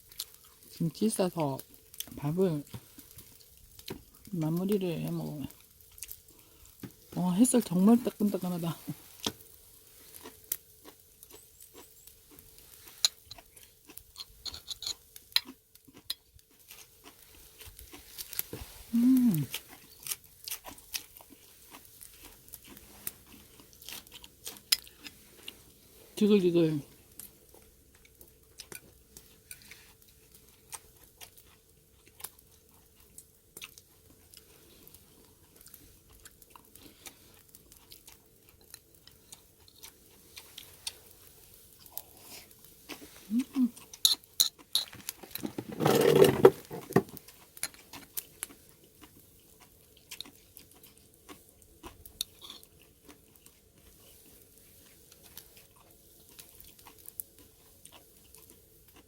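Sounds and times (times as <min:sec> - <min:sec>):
people chewing and crunching food: 0:00.0 - 0:59.0.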